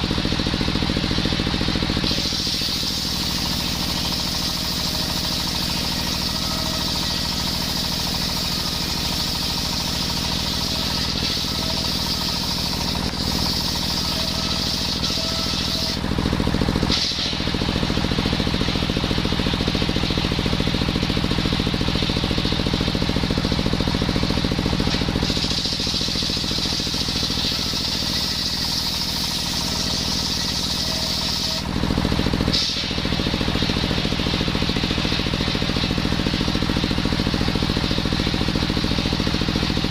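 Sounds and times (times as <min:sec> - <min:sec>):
saw cutting wood: 0:00.0 - 0:20.8, 0:23.9 - 0:39.9
circular saw engine running: 0:00.0 - 0:39.9.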